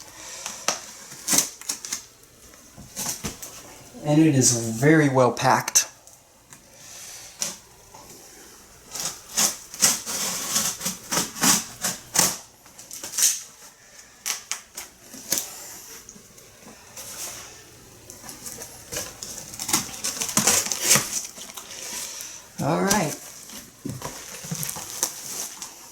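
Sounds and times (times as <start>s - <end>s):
packing material rustling: 0.0s - 4.0s, 6.1s - 25.9s.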